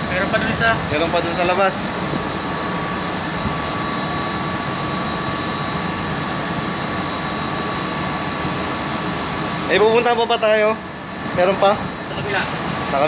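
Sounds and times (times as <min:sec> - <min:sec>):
thin steady whines: 0:00.0 - 0:13.0
ventilation machinery drone: 0:00.0 - 0:13.0.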